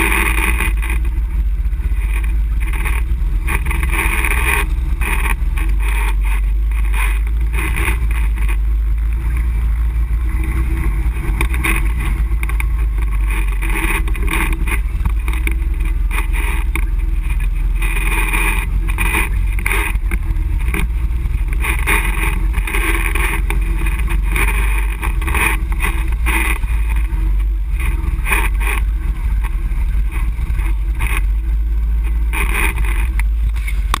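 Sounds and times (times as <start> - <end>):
atv engine running: 0.0 - 34.0
knocks and rattles: 0.0 - 34.0.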